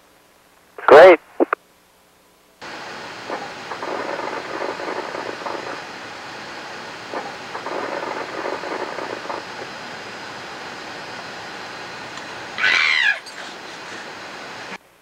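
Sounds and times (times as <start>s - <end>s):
steady cabin hiss: 0.0s - 15.0s.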